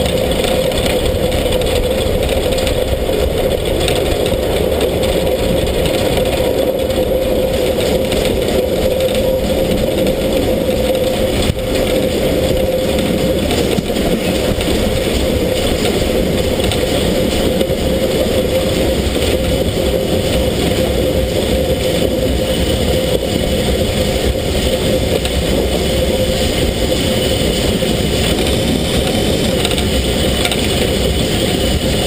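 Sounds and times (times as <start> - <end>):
steam locomotive running: 0.0 - 32.0.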